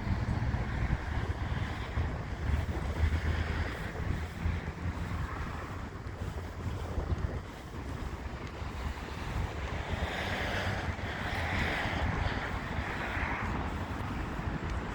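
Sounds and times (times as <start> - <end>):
city street noise: 0.0 - 14.9
wind buffeting microphone: 0.0 - 14.9.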